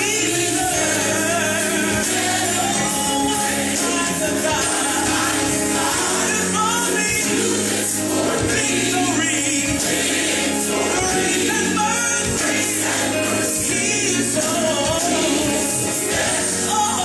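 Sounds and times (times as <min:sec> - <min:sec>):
choir singing gospel music: 0:00.0 - 0:17.0.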